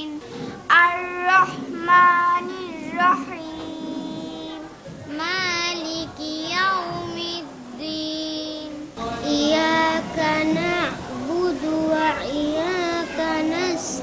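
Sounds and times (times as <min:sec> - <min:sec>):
girl singing: 0:00.0 - 0:14.0.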